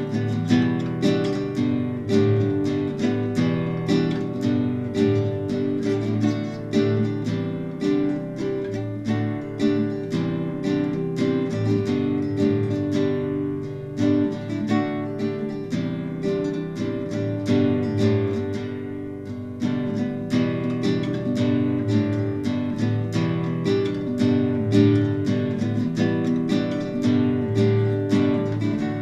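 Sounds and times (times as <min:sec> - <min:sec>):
acoustic guitar picked and strummed: 0:00.0 - 0:29.0.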